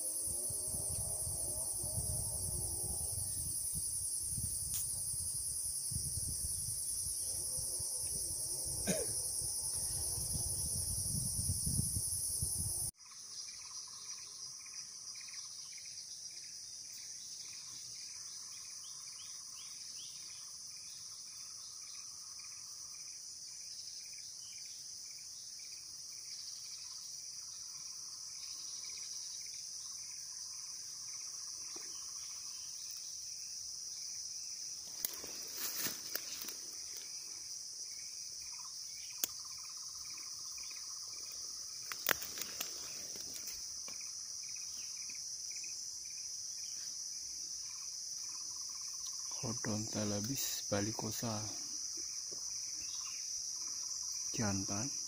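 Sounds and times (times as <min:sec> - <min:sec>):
insect chorus shrilling: 0:00.0 - 0:55.0
rapid insect chirps: 0:00.0 - 0:55.0.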